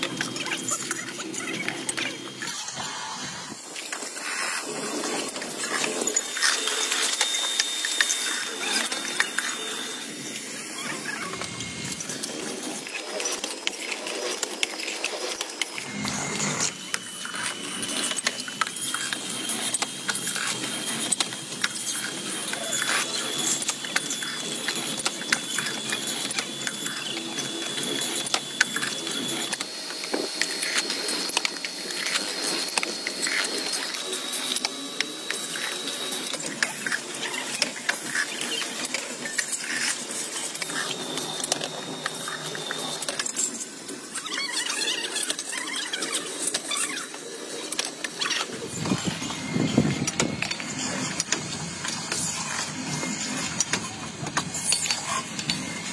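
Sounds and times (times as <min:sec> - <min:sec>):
high machine whine: 0:00.0 - 0:55.9.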